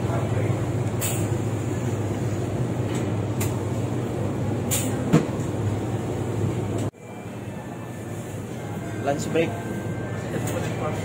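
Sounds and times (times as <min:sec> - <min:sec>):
food court hum and murmur: 0:00.0 - 0:11.0.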